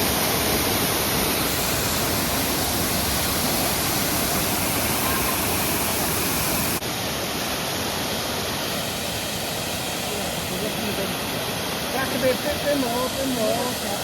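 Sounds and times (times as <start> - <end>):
waterfall rushing water: 0.0 - 14.0.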